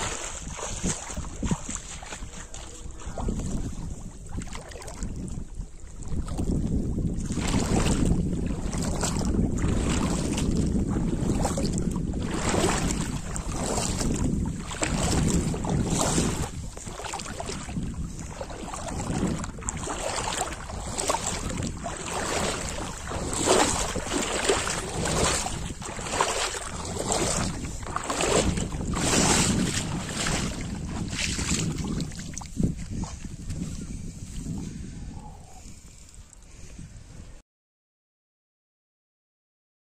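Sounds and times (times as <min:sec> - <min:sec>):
wind buffeting microphone: 0:00.0 - 0:37.4.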